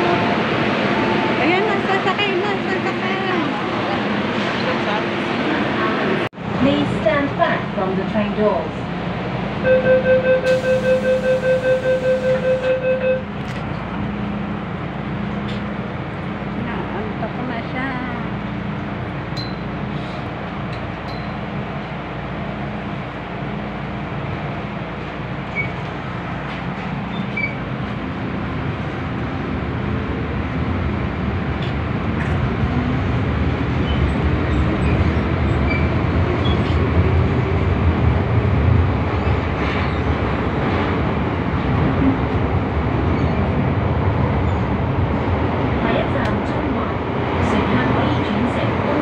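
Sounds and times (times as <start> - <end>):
metro car wheels and motors rumbling: 0.0 - 49.0.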